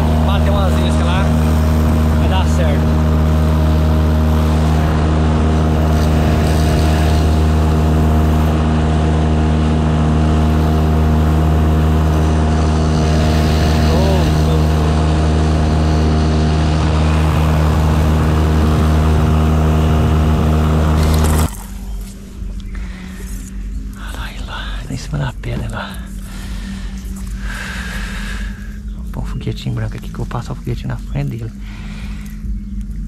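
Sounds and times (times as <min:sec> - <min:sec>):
boat motor droning: 0:00.0 - 0:33.0.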